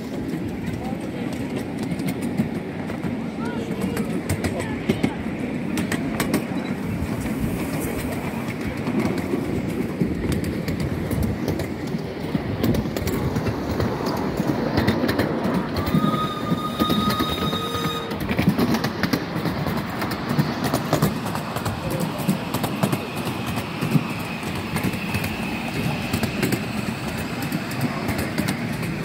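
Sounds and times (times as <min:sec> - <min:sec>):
miniature train rumbling: 0:00.0 - 0:29.0
wheels clicking over rail joints: 0:00.0 - 0:29.0.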